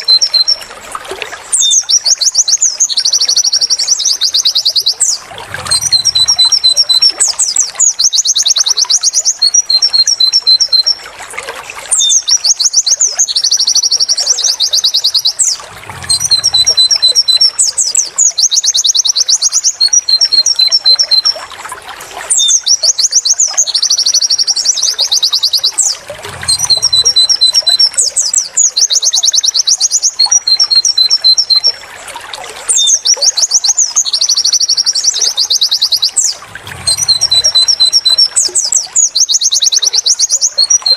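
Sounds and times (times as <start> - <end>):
bird chirps and trills: 1.5 - 11.0, 11.9 - 21.4, 22.3 - 31.8, 32.7 - 40.9.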